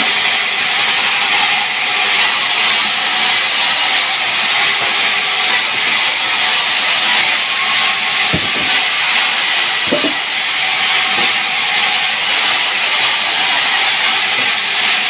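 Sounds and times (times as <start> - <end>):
saw cutting through log: 0.0 - 15.0.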